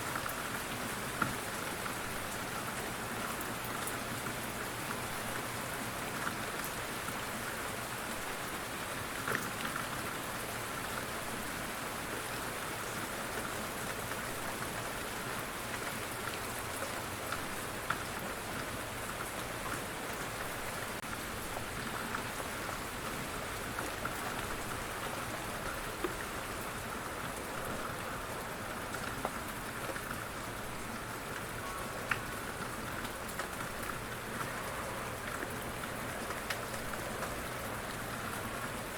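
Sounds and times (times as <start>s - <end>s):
raindrops ticking on a surface: 0.0s - 38.9s
steady rainfall: 0.0s - 38.9s.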